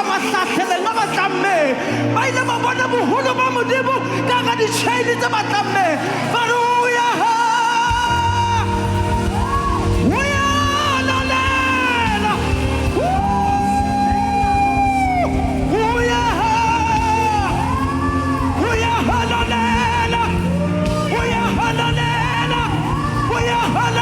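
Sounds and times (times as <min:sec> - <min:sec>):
musical backing: 0:00.0 - 0:24.0
person singing gospel: 0:00.0 - 0:24.0.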